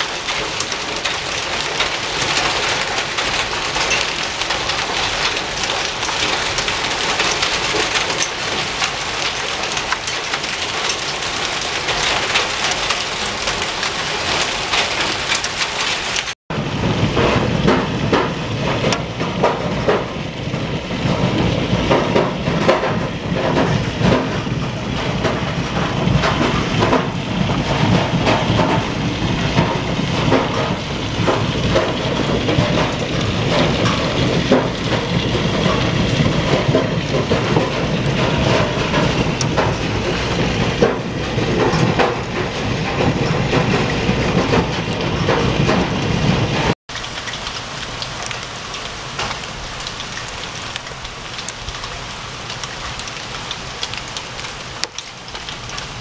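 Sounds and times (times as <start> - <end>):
hail clattering on hard surfaces: 0.0 - 56.0.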